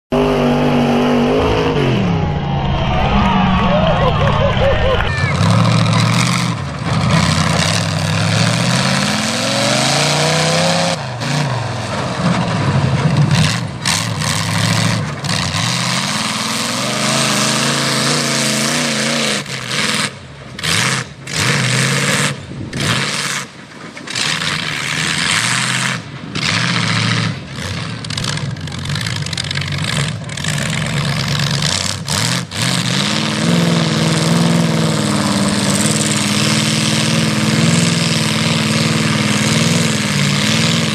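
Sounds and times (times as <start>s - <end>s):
truck engine revving hard: 0.1s - 40.9s.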